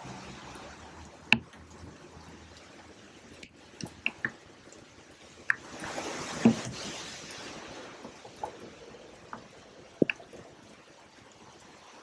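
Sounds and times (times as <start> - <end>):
sharp drips plinking: 0.0 - 6.6, 8.2 - 12.0
rain falling on river: 0.0 - 12.0.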